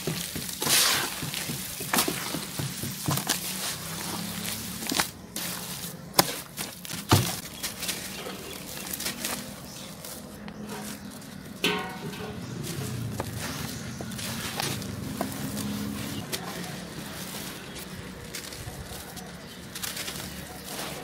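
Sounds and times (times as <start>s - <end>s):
hands crumbling dried cement: 0.0s - 21.0s.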